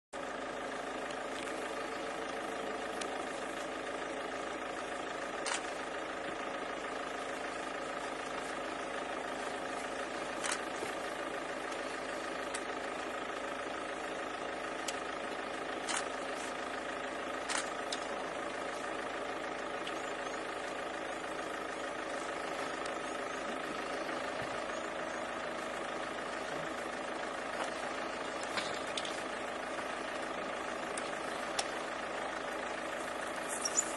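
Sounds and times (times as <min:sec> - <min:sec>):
vehicle engine idling: 0:00.2 - 0:33.9.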